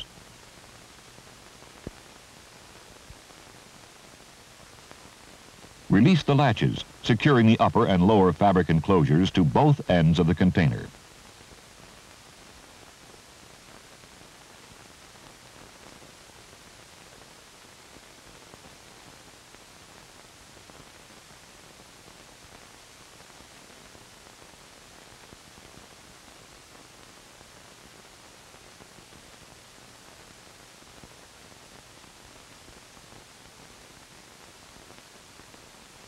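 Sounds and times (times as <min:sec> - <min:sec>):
film soundtrack hiss: 0:00.0 - 0:36.0.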